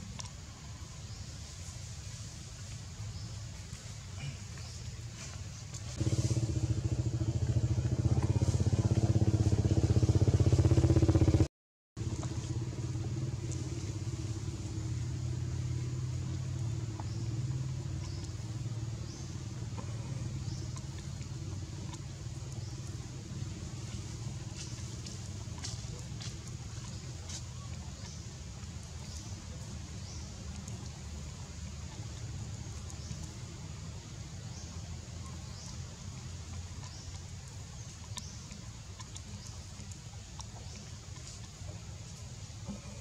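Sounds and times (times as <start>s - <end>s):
motor engine running: 5.7s - 43.0s.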